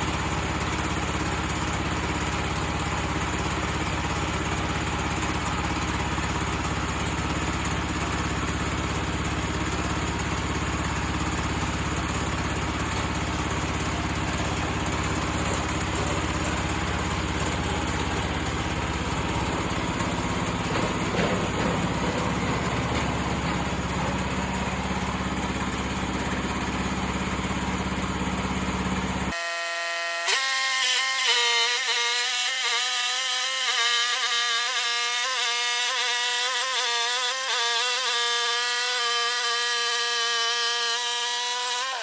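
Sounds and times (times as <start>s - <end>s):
portable sawmill running: 0.0s - 42.0s.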